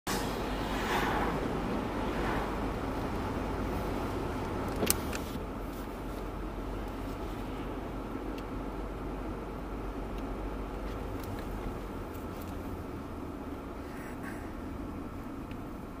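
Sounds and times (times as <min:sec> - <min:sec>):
car road and engine noise: 0:00.1 - 0:16.0.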